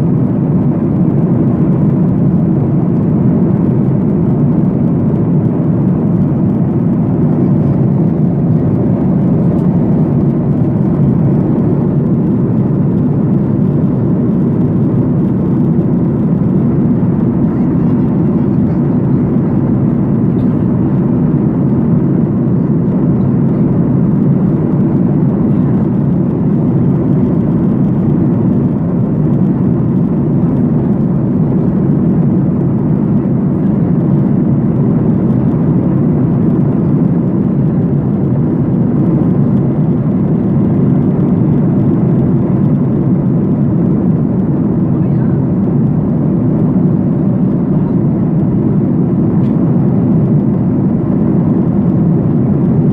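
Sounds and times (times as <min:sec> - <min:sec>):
jet engines rushing: 0:00.0 - 0:52.9.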